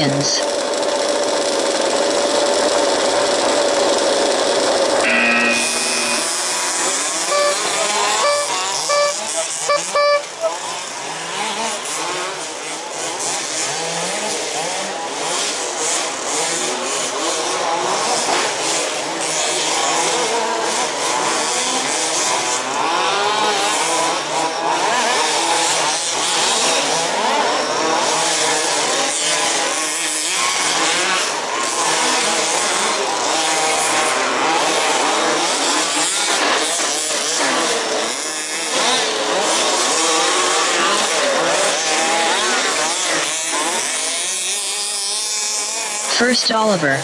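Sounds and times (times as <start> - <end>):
small two-stroke engines buzzing: 0.0 - 47.0.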